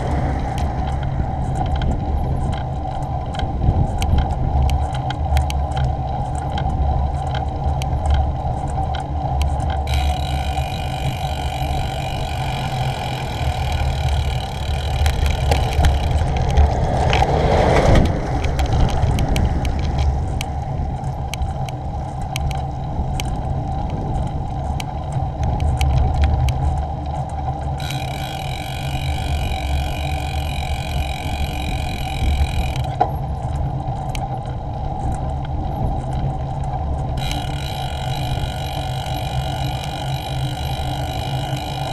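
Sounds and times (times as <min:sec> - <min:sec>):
wind and road rumble: 0:00.0 - 0:41.9.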